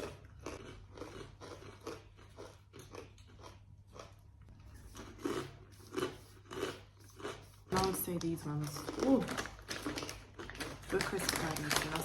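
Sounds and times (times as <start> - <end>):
crunching and chewing cookie: 0.0 - 12.0.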